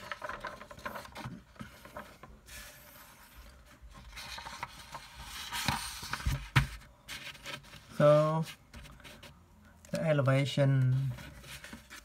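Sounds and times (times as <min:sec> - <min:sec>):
paper rustling: 0:00.0 - 0:10.1, 0:10.8 - 0:12.0.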